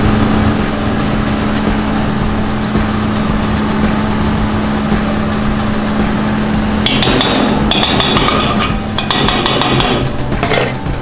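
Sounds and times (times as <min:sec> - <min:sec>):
cotton candy machine humming: 0:00.0 - 0:11.0
high steady tones: 0:00.0 - 0:11.0.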